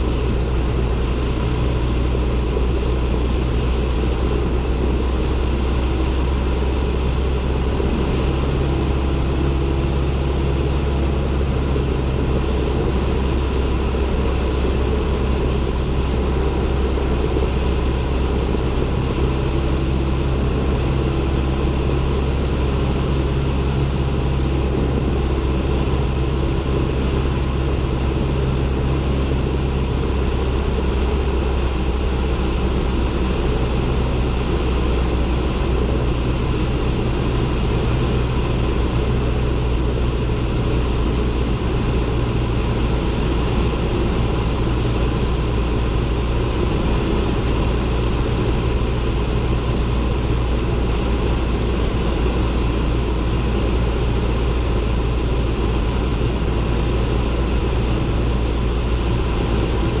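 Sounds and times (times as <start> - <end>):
airplane engine and propeller droning: 0.0 - 60.0.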